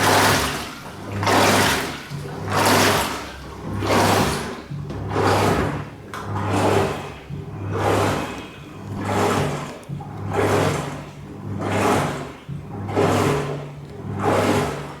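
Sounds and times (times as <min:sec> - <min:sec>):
washing machine water swishing: 0:00.0 - 0:15.0.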